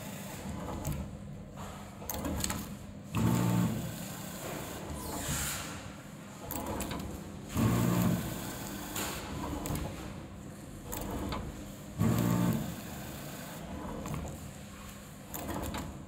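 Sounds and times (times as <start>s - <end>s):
packing machine hum and clatter: 0.0s - 16.0s.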